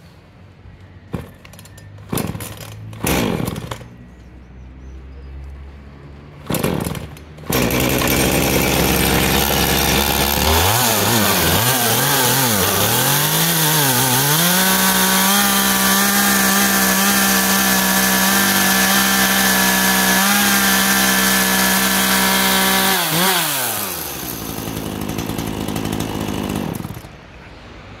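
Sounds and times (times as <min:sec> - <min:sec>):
chainsaw engine idling and revving: 0:01.2 - 0:04.1, 0:06.4 - 0:27.1.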